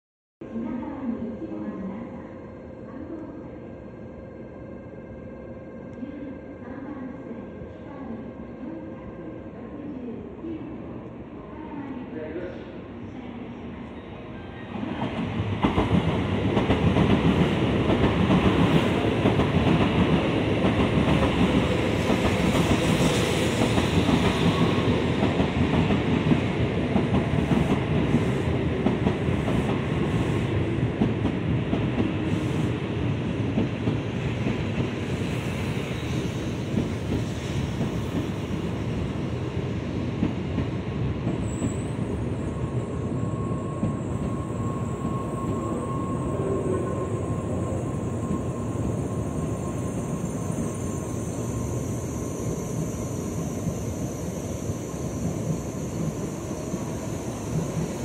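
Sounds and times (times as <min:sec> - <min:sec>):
train passing on rails: 0:00.4 - 0:58.0.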